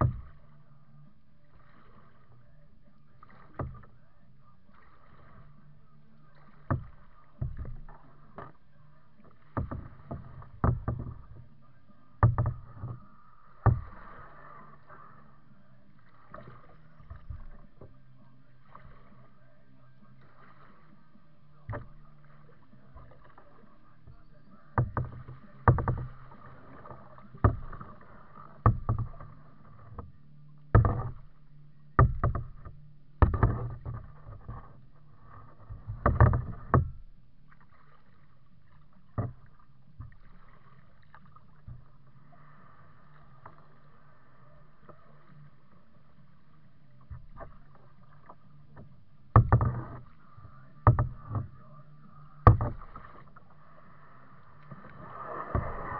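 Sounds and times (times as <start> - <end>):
paddle knocks and splashes: 0.0 - 55.9.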